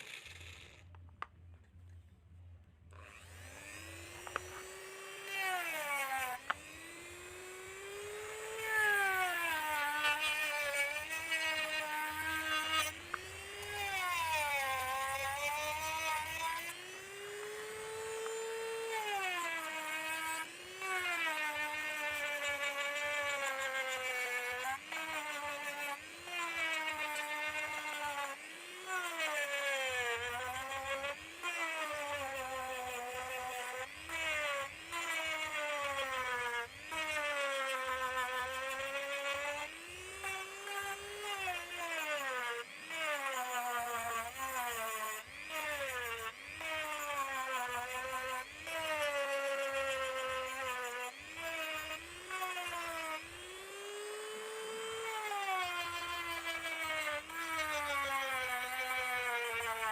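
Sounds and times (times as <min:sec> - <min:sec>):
rotary tool whining: 0:00.0 - 0:02.0, 0:02.9 - 0:59.9.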